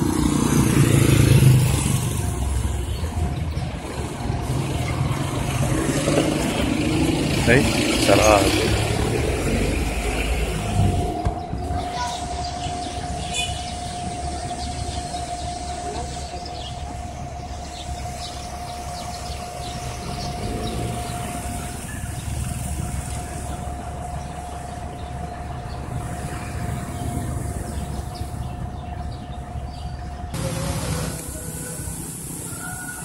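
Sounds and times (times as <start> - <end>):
low machine rumble: 0.0 - 32.2
constant whining tone: 0.0 - 33.0.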